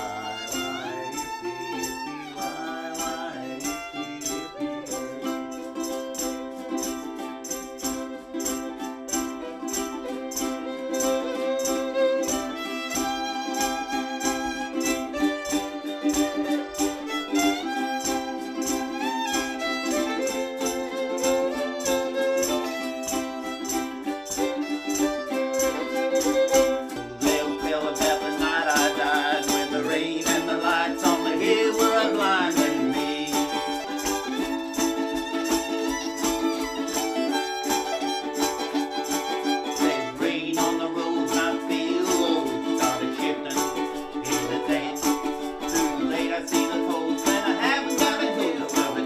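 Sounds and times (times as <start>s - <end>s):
fiddle melody: 0.0s - 49.0s
ukuleles strumming: 0.0s - 49.0s.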